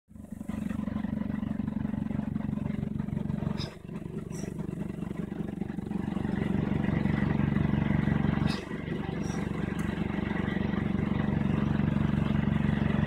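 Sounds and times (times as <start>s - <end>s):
engine throbbing: 0.1s - 13.0s.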